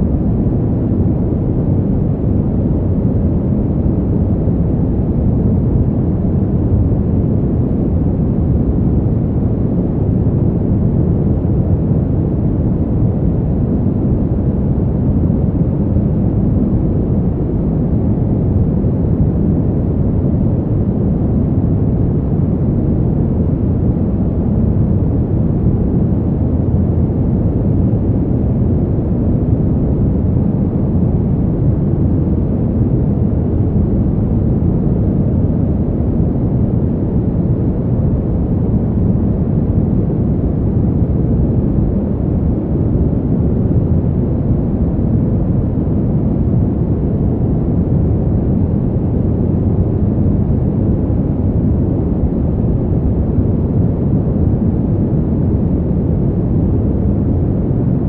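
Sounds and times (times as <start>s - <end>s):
deep rush of wind: 0.0s - 58.0s.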